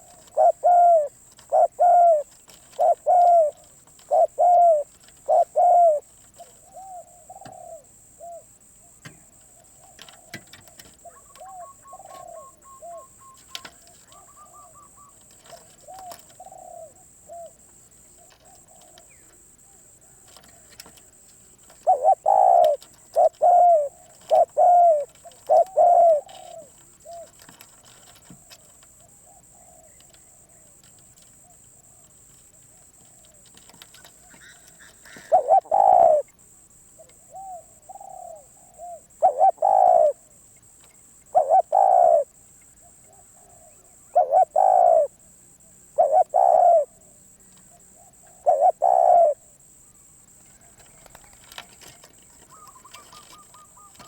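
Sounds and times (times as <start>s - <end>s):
dove cooing: 0.0s - 36.3s, 36.9s - 40.4s, 41.2s - 49.5s, 50.5s - 54.0s.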